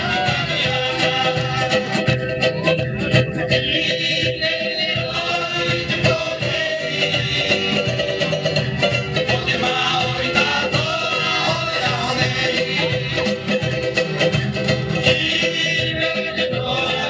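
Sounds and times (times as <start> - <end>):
voices singing together: 0.0 - 2.7, 3.4 - 13.8, 14.8 - 17.0
instrumental accompaniment: 0.0 - 17.0.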